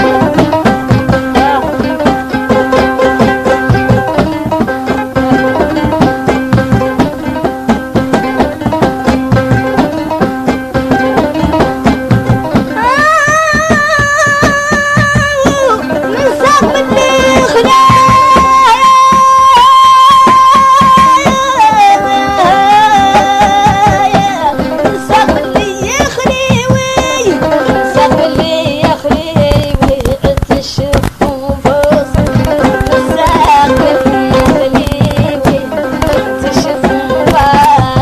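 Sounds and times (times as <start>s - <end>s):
drum: 0.0s - 38.0s
plucked string instrument: 0.0s - 38.0s.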